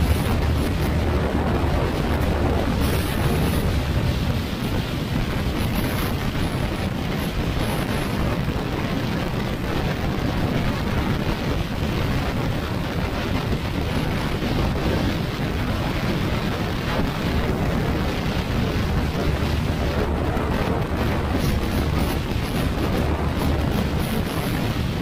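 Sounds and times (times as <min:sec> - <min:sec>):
road noise: 0:00.0 - 0:25.0
wind on microphone: 0:00.0 - 0:25.0.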